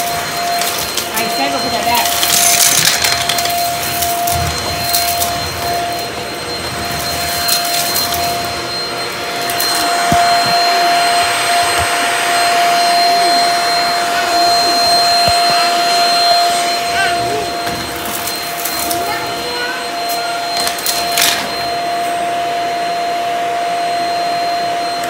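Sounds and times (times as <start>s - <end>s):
stick vacuum whining: 0.0s - 25.0s.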